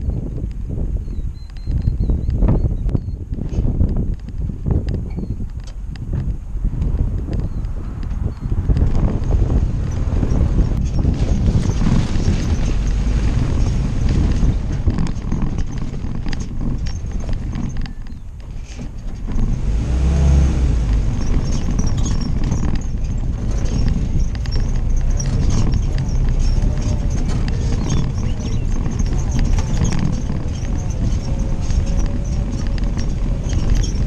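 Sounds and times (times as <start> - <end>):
body rattling and knocking: 1.1 - 20.0, 20.6 - 34.0
jeep engine running: 5.7 - 34.0.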